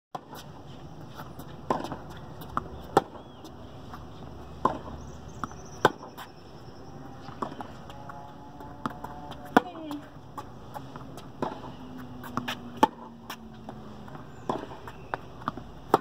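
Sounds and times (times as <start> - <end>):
tennis ball bouncing on court: 0.2 - 6.4, 7.1 - 16.0
tennis ball struck by rackets: 1.4 - 4.0, 4.6 - 6.3, 7.2 - 16.0.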